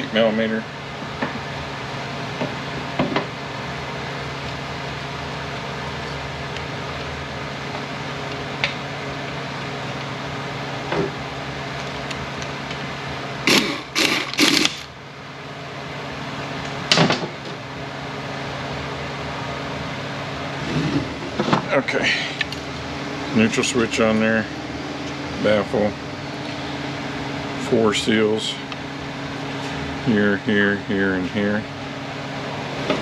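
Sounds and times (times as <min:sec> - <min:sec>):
hum of shop machinery: 0:00.0 - 0:33.0.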